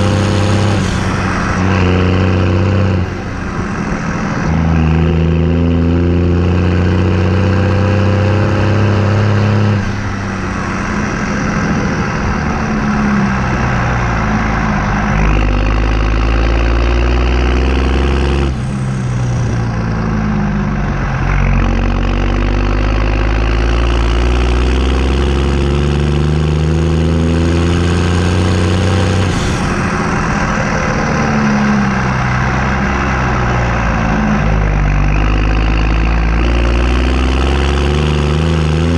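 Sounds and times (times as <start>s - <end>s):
tractor diesel engine revving: 0.0s - 38.9s.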